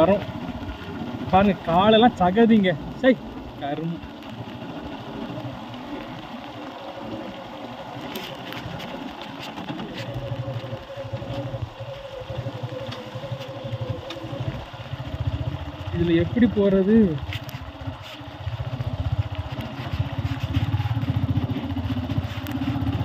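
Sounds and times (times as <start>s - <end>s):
motorcycle engine chugging: 0.0s - 23.0s.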